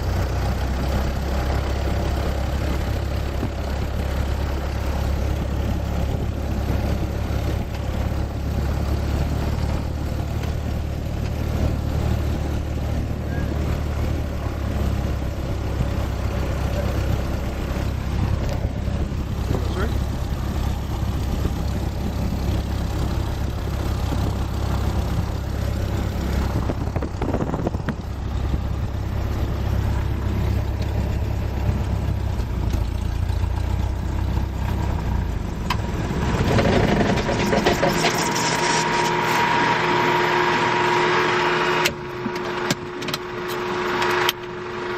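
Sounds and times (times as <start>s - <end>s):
aircraft engine drone: 0.0s - 44.9s.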